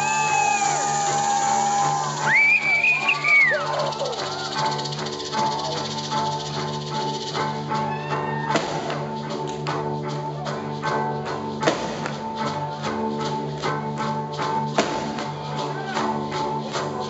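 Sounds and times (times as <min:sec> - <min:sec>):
rock band playing slow droning piece: 0:00.0 - 0:15.8.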